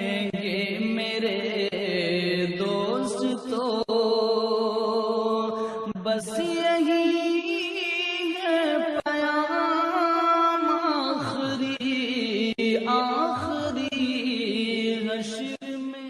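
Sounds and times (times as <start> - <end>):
slow chant-like melody: 0.0 - 16.0.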